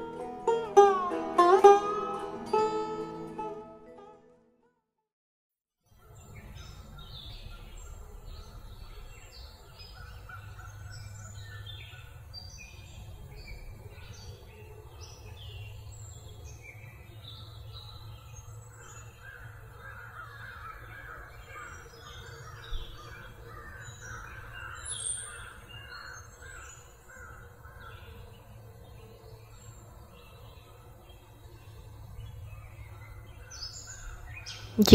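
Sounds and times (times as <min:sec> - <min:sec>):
birds chirping and calling: 0:06.1 - 0:34.9.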